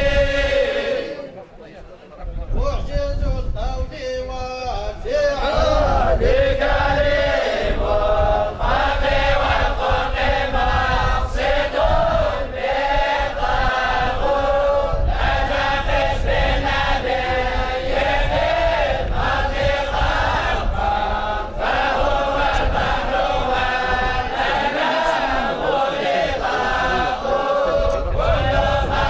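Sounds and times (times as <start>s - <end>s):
men chanting in unison: 0.0s - 1.3s, 4.6s - 29.0s.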